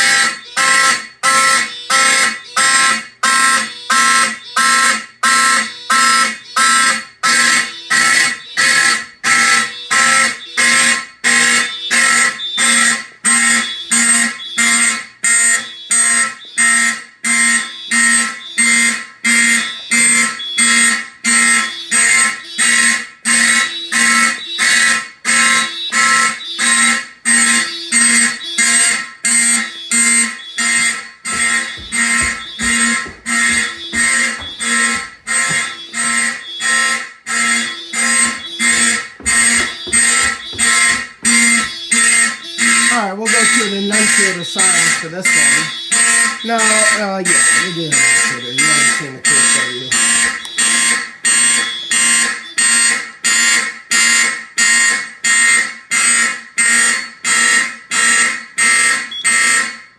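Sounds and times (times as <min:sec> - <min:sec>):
fire alarm horns pulsing: 0:00.0 - 0:59.9.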